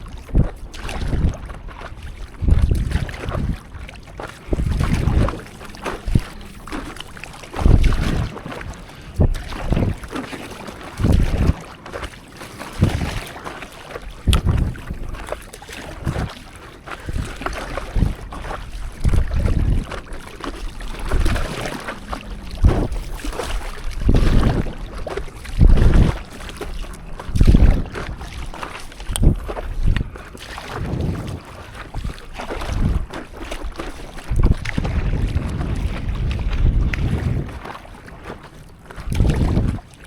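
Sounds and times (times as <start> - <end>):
water splashing and sloshing: 0.0 - 40.0
wind rumbling on microphone: 0.0 - 40.0.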